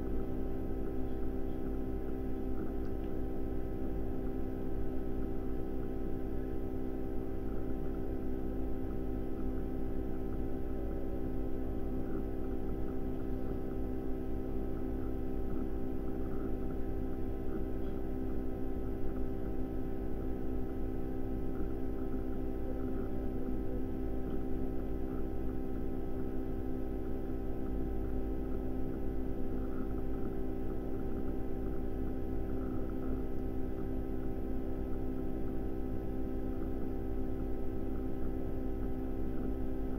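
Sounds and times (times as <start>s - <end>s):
steady hum of held tones: 0.0s - 39.9s.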